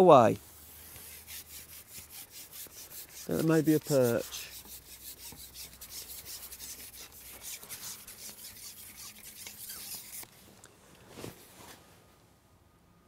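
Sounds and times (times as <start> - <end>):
fishing pole rubbing and rustling: 0.5 - 11.8.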